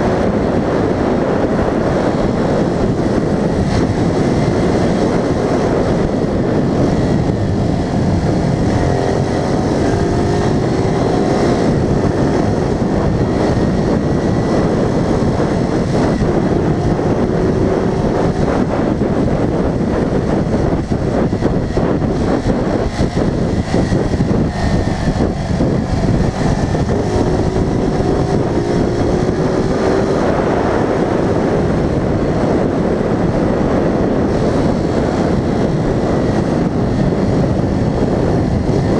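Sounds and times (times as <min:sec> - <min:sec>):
road noise: 0:00.0 - 0:38.9
vehicle engine: 0:00.0 - 0:38.9
wind on microphone: 0:00.0 - 0:38.9.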